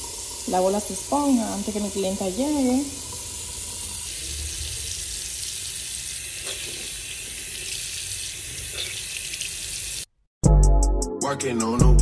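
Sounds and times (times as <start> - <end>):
faucet splashing into sink: 0.0 - 10.1.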